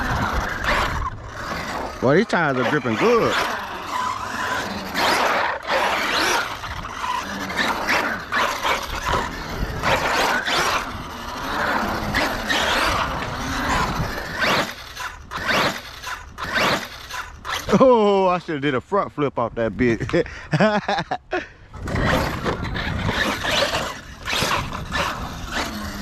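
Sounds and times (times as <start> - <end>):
tires skidding on concrete: 0.0 - 17.8, 21.8 - 26.0
toy truck electric motor whining: 0.0 - 17.8, 21.8 - 26.0.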